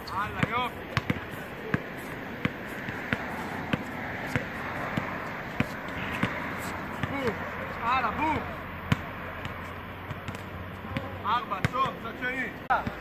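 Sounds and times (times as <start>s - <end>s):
basketball bouncing: 0.0s - 7.4s, 8.9s - 12.0s.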